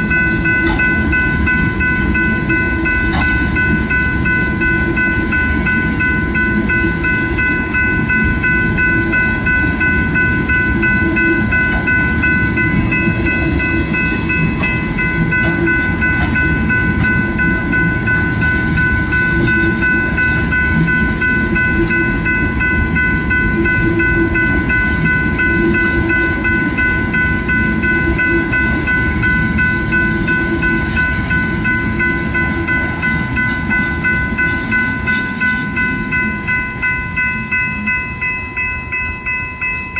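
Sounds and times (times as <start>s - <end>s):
crossing warning bell ringing: 0.0s - 39.9s
freight train wheels clattering: 0.0s - 39.9s.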